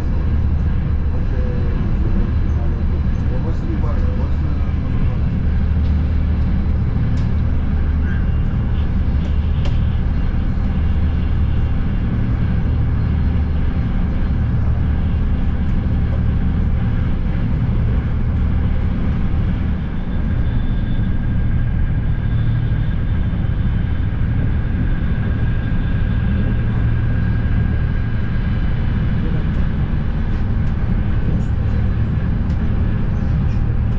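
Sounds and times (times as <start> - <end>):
train rumble inside coach: 0.0 - 33.9.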